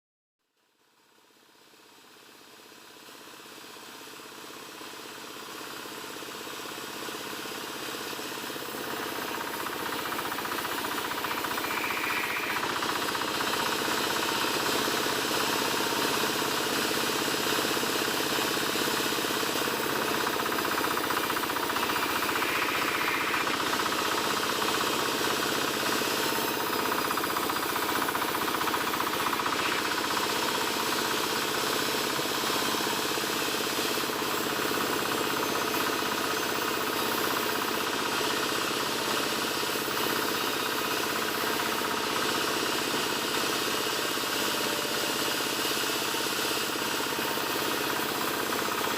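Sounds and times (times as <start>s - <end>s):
power saw cutting wood: 7.1s - 48.9s.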